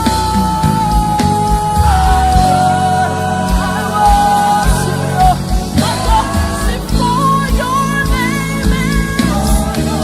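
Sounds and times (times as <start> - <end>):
keyboard and bass chords: 0.0 - 10.0
person singing: 0.0 - 10.0.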